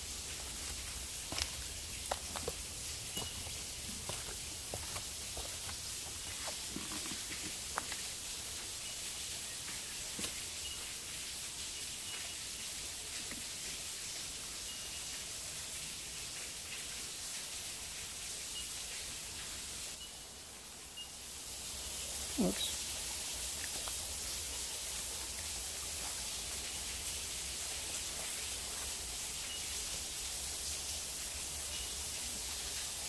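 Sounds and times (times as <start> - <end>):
high-pitched forest hiss: 0.0 - 33.0.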